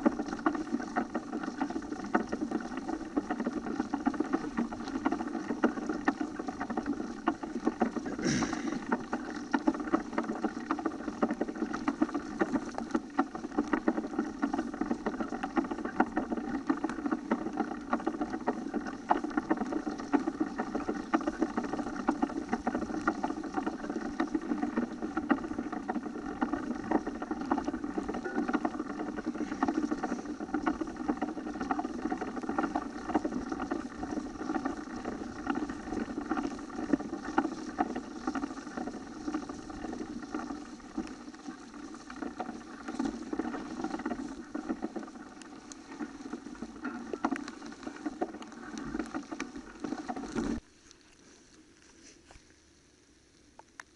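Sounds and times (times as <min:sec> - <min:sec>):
bike tyre rumble: 0:00.0 - 0:53.9.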